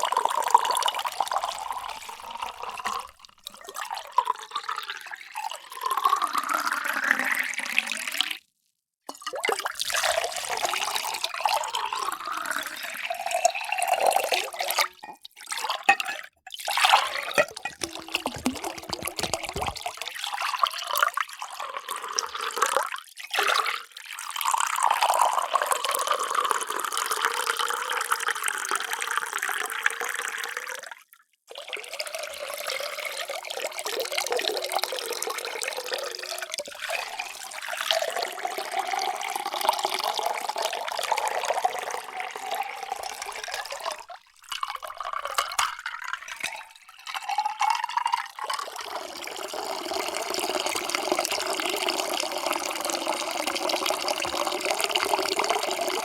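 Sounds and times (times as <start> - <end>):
water pouring into vessel: 0.0 - 8.4, 9.1 - 56.0.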